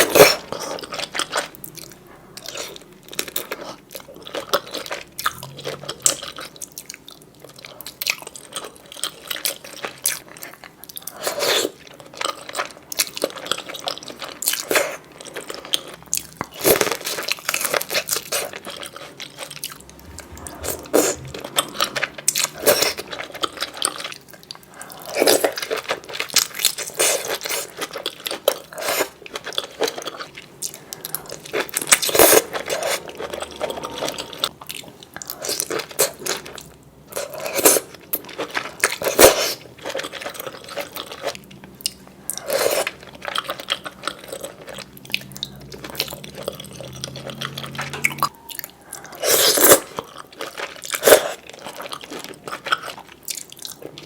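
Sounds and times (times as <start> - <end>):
chewing seafood with crunches: 0.0 - 54.0.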